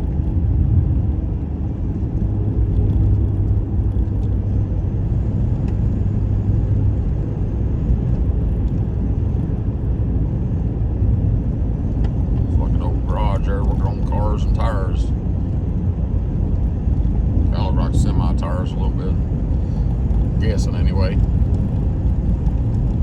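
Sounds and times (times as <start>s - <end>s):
car road noise rumble: 0.0s - 23.0s.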